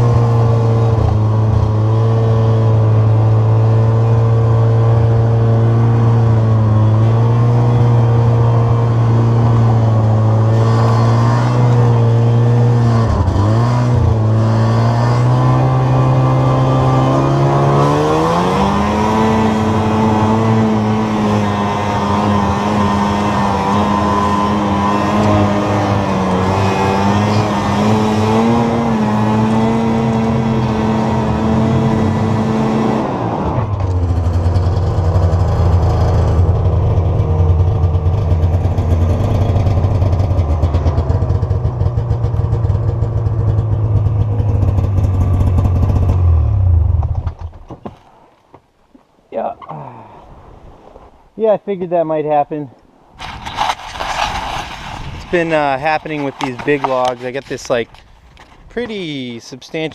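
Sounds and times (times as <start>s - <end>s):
snowmobile engine under load: 0.0s - 47.7s, 53.2s - 59.9s.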